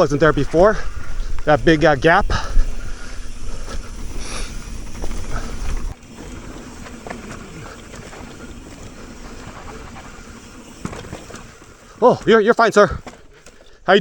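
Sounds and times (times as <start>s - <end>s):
wind rumbling on microphone: 0.0s - 12.0s
bike clicks and rattles: 0.0s - 14.0s
tyres on loose dirt: 0.0s - 14.0s.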